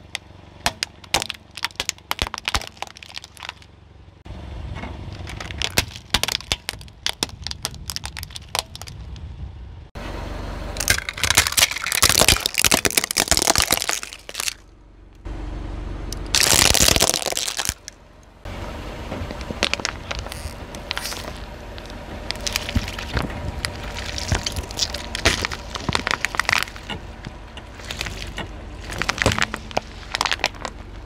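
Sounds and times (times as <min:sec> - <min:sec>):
objects crunching under car tyre: 0:00.0 - 0:03.8, 0:04.8 - 0:09.3, 0:10.8 - 0:14.7, 0:16.1 - 0:18.0, 0:19.0 - 0:31.0.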